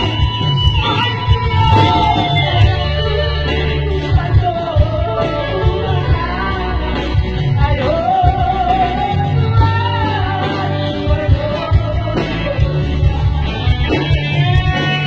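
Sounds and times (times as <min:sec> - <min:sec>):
band with bass and beat: 0:00.0 - 0:15.0.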